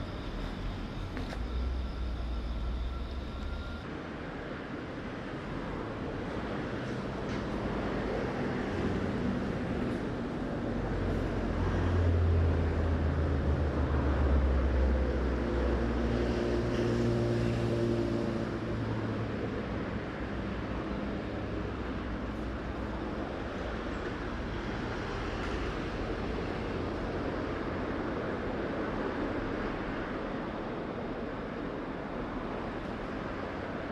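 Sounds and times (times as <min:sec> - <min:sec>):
wind: 0:00.0 - 0:33.9.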